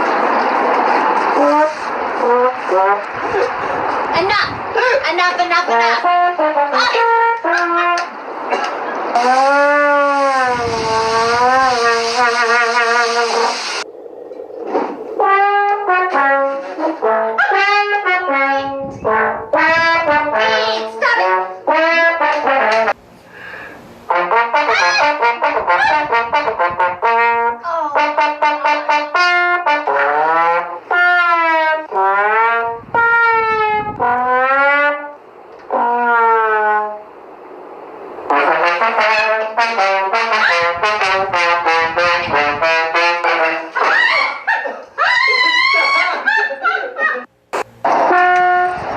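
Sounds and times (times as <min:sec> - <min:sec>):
trumpet-like brass melody: 0:00.8 - 0:03.9, 0:05.5 - 0:13.9, 0:15.2 - 0:37.2, 0:38.3 - 0:44.4, 0:47.6 - 0:48.9.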